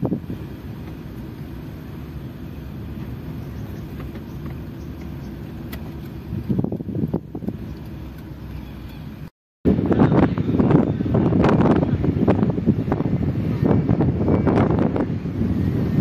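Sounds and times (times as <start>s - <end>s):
low buffets: 0.0s - 16.0s
vehicle engine and road rumble: 0.0s - 16.0s.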